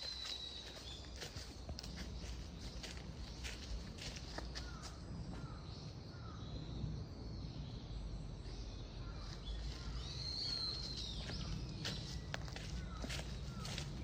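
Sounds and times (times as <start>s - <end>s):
wild birds calling: 0.0s - 6.8s, 8.5s - 14.0s
outdoor background noise: 0.0s - 14.0s.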